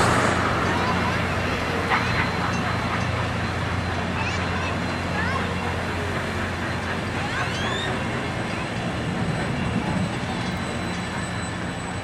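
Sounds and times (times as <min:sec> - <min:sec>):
train wheels rolling on track: 0:00.0 - 0:12.0.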